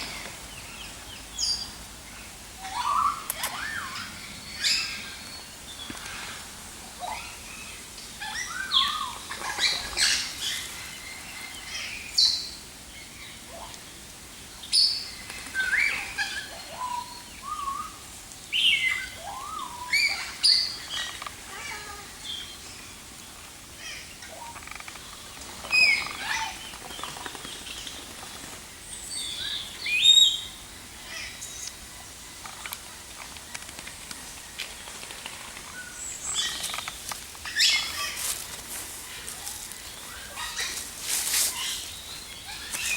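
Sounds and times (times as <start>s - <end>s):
birds chirping and calling: 0.0s - 14.0s, 14.6s - 42.9s.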